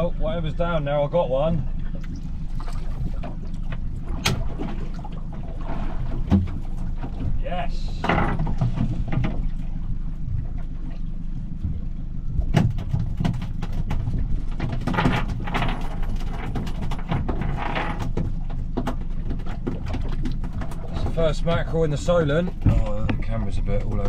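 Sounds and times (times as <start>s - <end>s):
low boat rumble: 0.0s - 24.0s.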